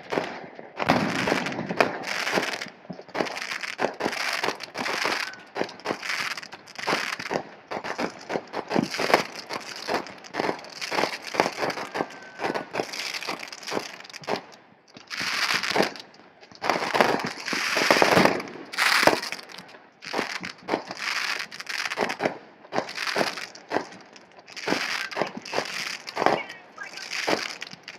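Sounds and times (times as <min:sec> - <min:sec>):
fireworks hissing crackle: 0:00.0 - 0:27.9
fireworks popping: 0:00.0 - 0:27.9.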